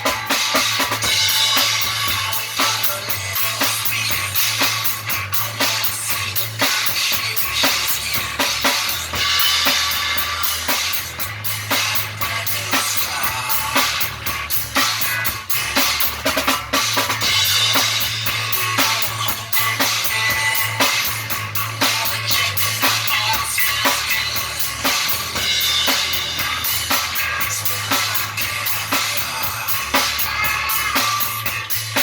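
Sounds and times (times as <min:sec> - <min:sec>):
drum kit beat: 0:00.0 - 0:32.0
rock band playing: 0:00.0 - 0:32.0.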